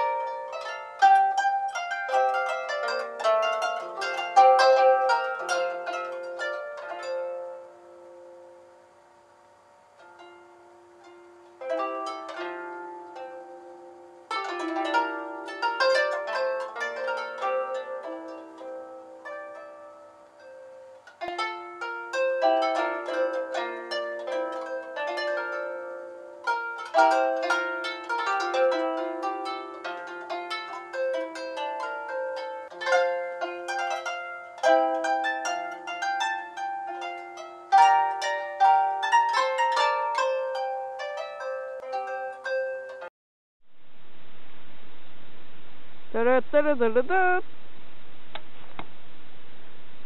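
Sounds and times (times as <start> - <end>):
harp music: 0.0 - 8.6, 10.1 - 43.1.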